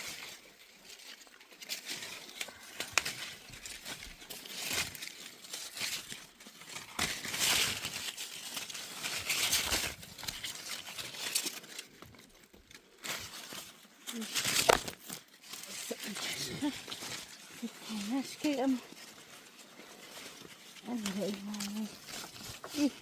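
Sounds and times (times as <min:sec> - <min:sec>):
hands rustling and crinkling: 0:00.0 - 0:23.0.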